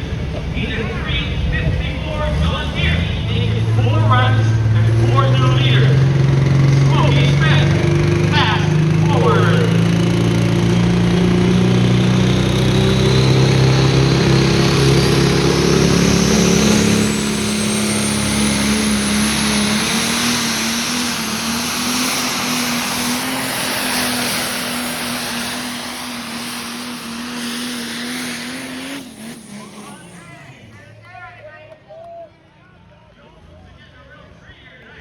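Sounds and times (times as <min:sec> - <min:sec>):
high rising whine: 0:00.0 - 0:30.6
diesel tractor engine running hard: 0:00.0 - 0:31.6.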